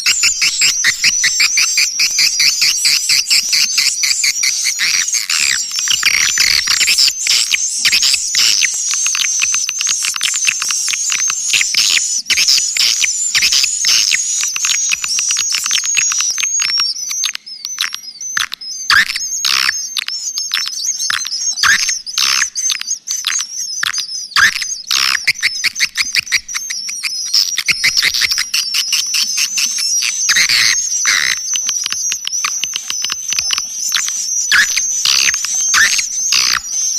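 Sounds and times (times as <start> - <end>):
swiftlets chirping and twittering: 0.0 - 36.9.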